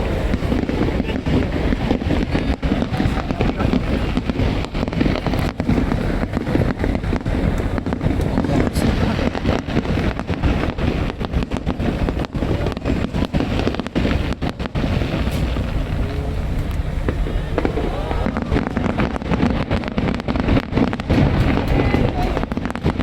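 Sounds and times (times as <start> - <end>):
low rumble: 0.0 - 22.9
crowd voices: 0.0 - 23.0
fireworks crackling bangs: 0.0 - 23.0.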